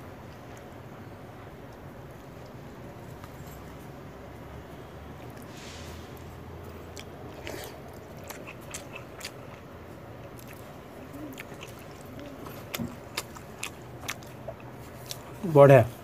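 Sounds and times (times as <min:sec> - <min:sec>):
chewing: 0:00.3 - 0:04.0, 0:05.1 - 0:05.5, 0:06.2 - 0:15.4.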